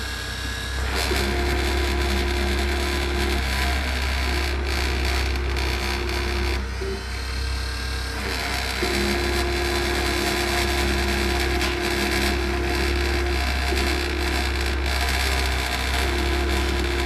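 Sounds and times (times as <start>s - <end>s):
mid-pitched whine: 0.0s - 17.0s
milling machine buzzing whir: 0.0s - 17.0s.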